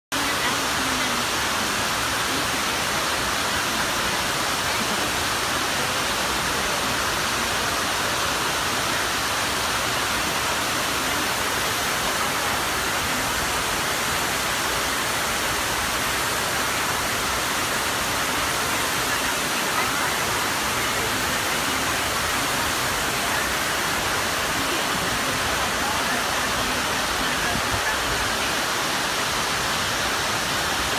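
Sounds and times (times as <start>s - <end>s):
water rushing down stone walls: 0.2s - 30.9s.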